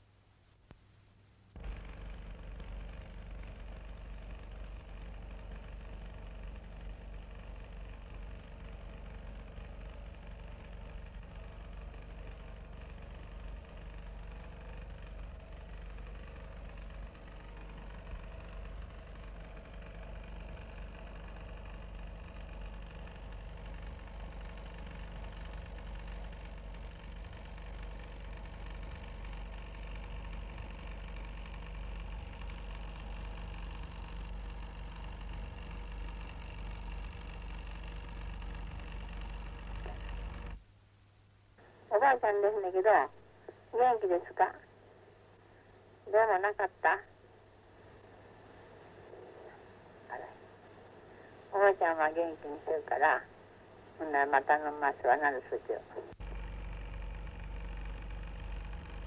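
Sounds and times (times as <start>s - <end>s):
low mechanical hum with pitched tones: 0.0s - 59.0s.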